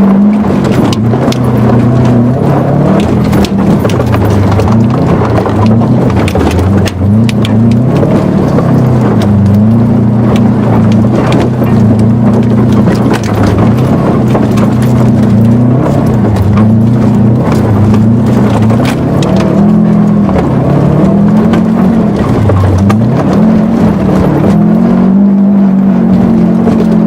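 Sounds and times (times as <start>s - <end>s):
car engine revving: 0.0s - 27.0s
rapid clicks and knocks: 0.0s - 27.0s.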